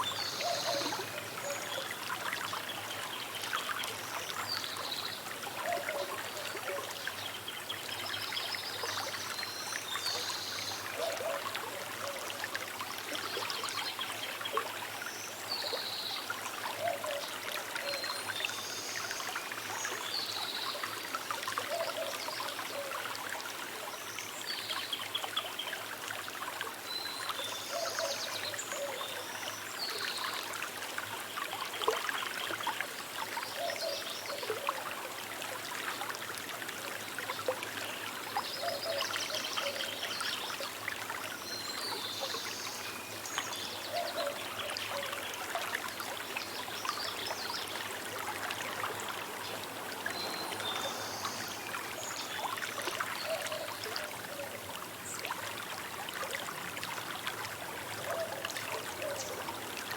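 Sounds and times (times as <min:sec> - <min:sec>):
river trickling over stones: 0:00.0 - 0:59.9.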